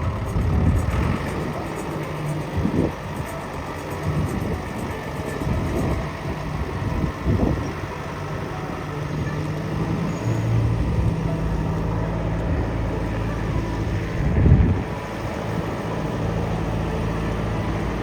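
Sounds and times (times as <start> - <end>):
engine humming: 0.0 - 18.0
wind buffeting microphone: 0.0 - 18.0.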